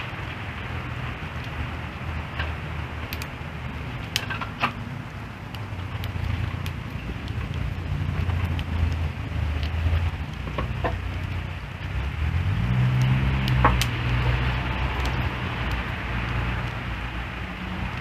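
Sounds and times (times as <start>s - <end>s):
fire pops: 0.0s - 18.0s
wood fire crackling: 0.0s - 18.0s.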